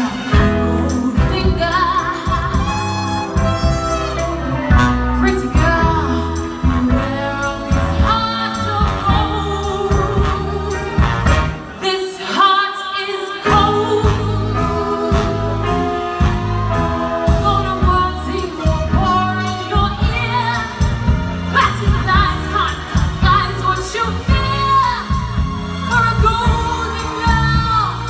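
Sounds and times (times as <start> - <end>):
soul funk band playing: 0.0 - 12.3, 13.4 - 28.0
woman singing: 0.0 - 28.0.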